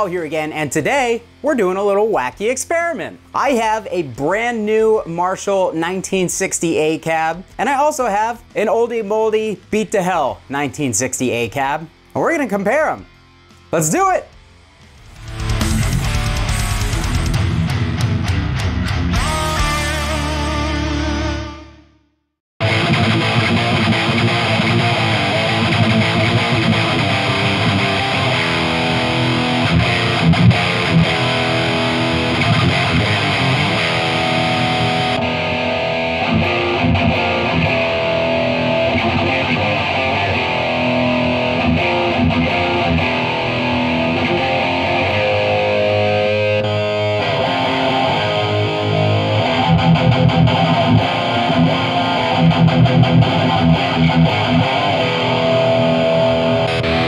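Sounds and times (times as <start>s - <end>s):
distorted electric guitar riffs: 0.0s - 57.0s.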